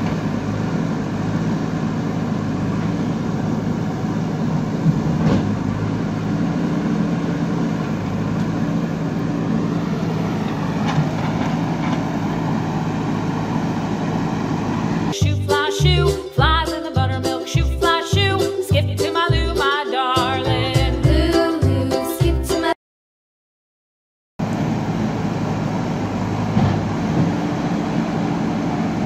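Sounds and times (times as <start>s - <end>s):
diesel engine running: 0.0s - 21.9s, 24.4s - 29.0s.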